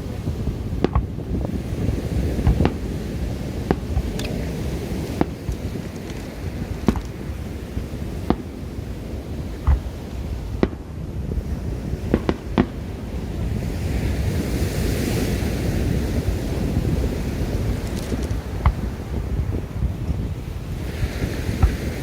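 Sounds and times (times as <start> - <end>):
fireworks bangs: 0.0 - 14.3, 16.2 - 22.0
wind rumble on microphone: 0.0 - 22.0.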